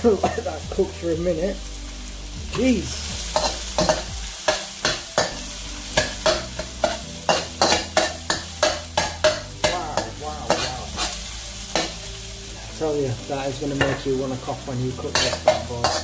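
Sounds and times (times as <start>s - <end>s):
paste sizzling in hot oil: 0.0s - 16.0s
utensil scraping wok: 2.4s - 16.0s.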